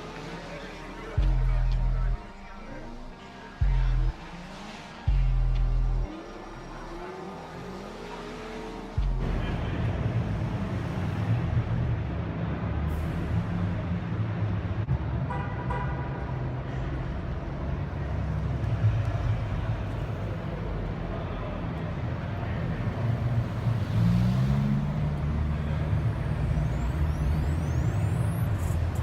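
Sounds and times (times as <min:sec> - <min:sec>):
car engine accelerating: 0:00.0 - 0:15.2, 0:16.9 - 0:29.0
road noise: 0:00.0 - 0:29.0.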